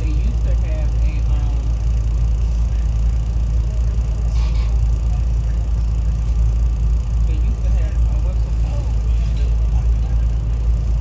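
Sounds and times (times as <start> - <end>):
train car rumbling on track: 0.0 - 11.0.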